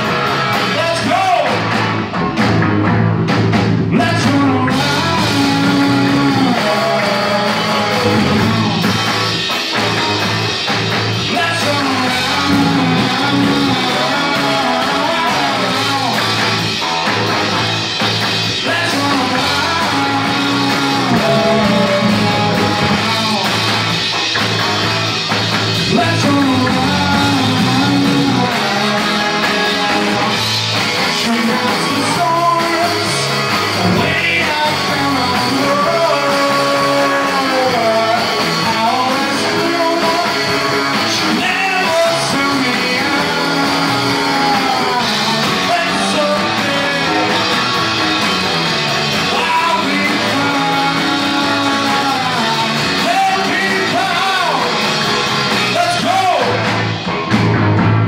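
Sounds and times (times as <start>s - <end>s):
man singing: 0.0s - 1.7s, 3.8s - 9.4s, 11.2s - 16.9s, 18.5s - 24.1s, 25.7s - 48.0s, 49.1s - 55.0s, 55.6s - 56.7s
drums: 0.0s - 58.0s
electric guitars: 0.0s - 58.0s.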